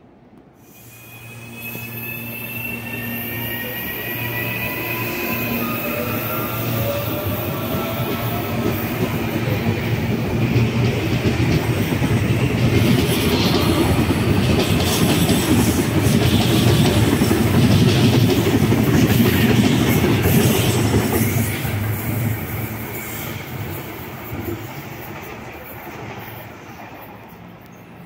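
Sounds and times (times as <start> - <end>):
electric train passing: 0.0 - 28.0.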